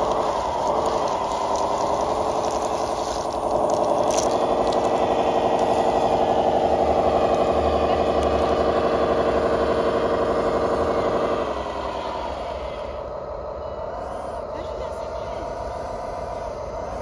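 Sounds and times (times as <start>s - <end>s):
simulated diesel engine through speaker: 0.0s - 17.0s.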